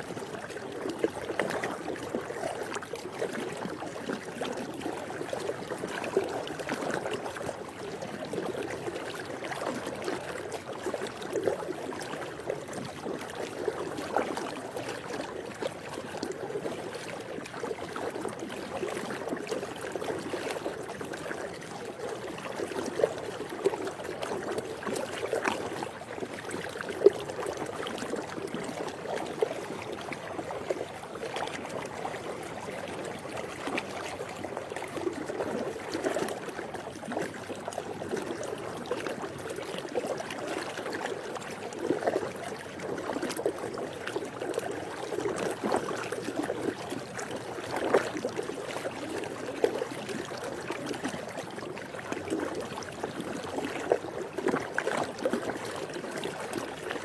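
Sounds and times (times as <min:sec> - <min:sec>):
pool water lapping and splashing: 0:00.0 - 0:57.0.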